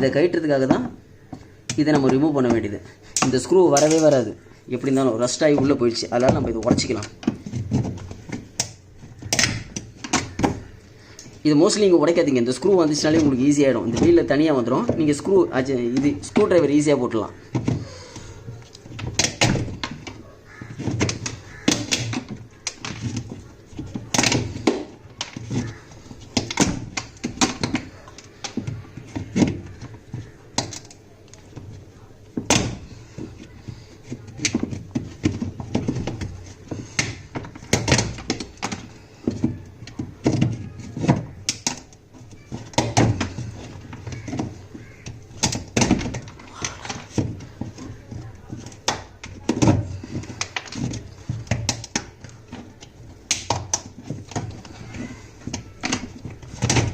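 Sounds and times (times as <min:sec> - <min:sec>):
metal knocks and clunks: 0:05.1 - 0:56.9.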